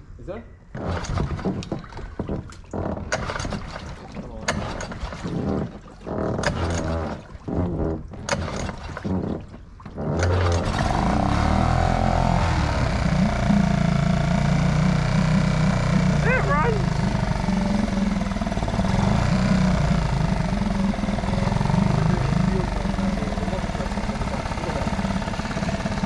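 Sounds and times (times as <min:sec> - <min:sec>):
outboard engine cranking: 0:00.7 - 0:26.0
outboard engine running: 0:00.8 - 0:26.0.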